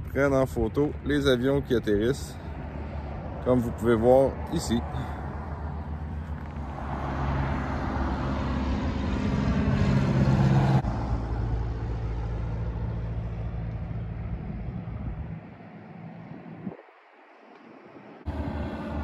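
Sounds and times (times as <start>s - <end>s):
small plane engine drone: 0.0s - 19.0s.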